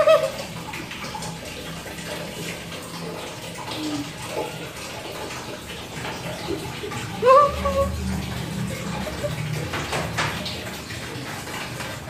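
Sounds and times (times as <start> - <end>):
water running: 0.0 - 12.0.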